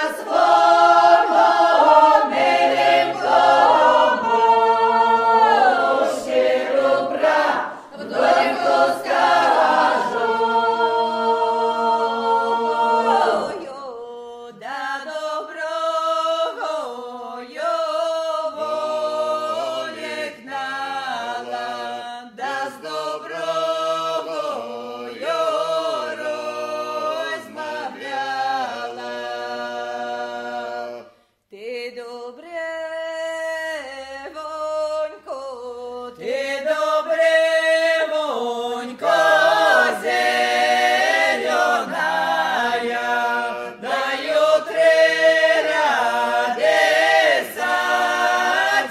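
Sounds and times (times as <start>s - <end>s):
group singing in harmony: 0.0s - 48.9s.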